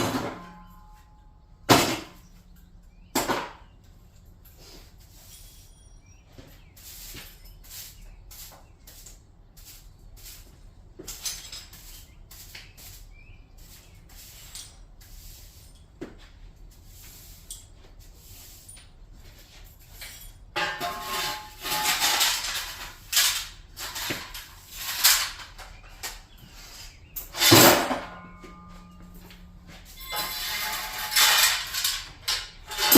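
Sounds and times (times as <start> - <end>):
clattering and scraping: 0.0 - 7.7, 13.6 - 32.9.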